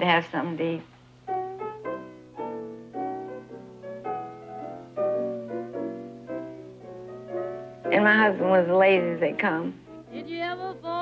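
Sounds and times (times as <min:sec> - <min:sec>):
slow blues piano: 0:01.0 - 0:11.0.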